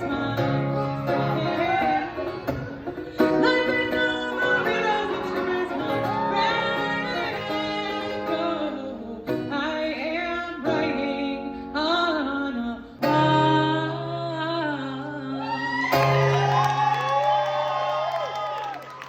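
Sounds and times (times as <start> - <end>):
woman singing: 0.0 - 16.2.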